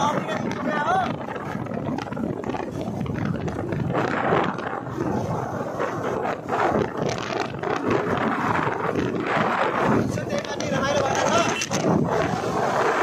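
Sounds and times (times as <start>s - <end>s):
motorcycle running: 0.0s - 13.0s
wind buffeting the microphone: 0.0s - 13.0s.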